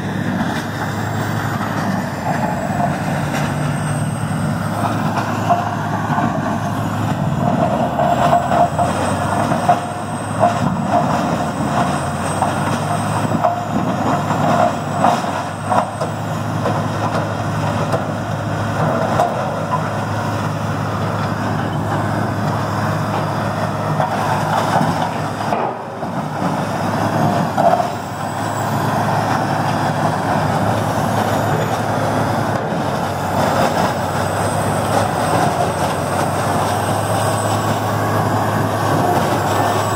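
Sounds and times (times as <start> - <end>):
heavy engine hum: 0.0 - 39.9.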